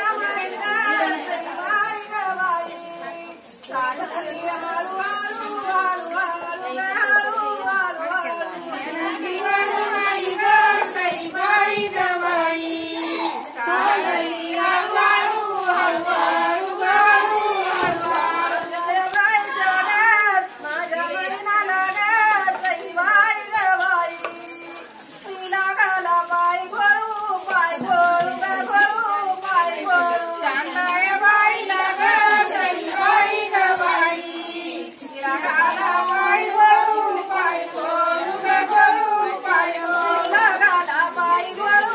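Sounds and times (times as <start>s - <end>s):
women singing folk song: 0.0s - 41.9s.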